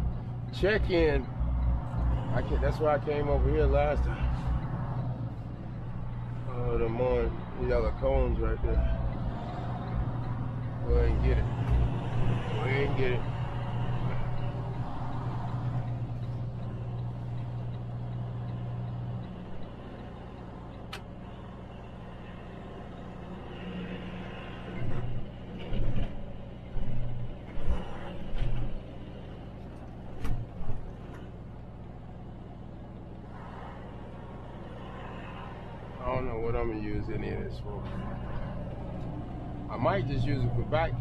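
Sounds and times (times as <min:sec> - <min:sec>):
diesel truck engine running: 0:00.0 - 0:41.0.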